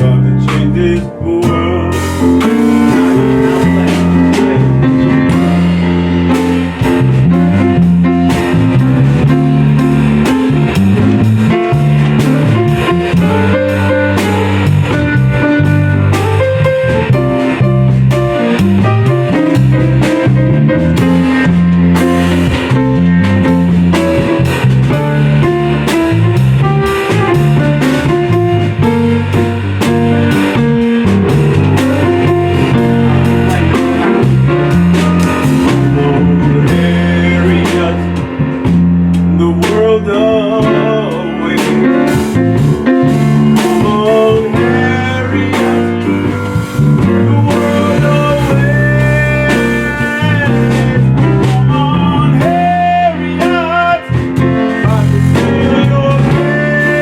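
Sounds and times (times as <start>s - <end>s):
bass notes: 0.0s - 57.0s
drum hits: 0.0s - 57.0s
guitar: 0.0s - 57.0s.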